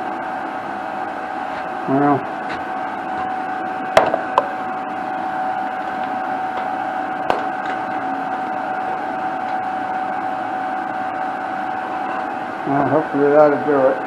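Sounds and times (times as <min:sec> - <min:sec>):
welding machine humming: 0:00.0 - 0:14.0.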